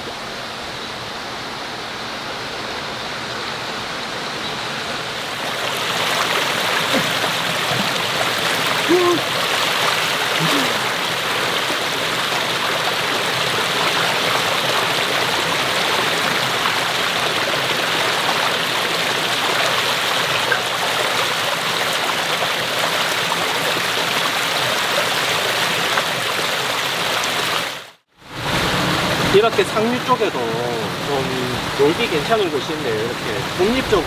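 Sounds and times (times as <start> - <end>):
stream flowing over rocks: 0.1 - 34.0.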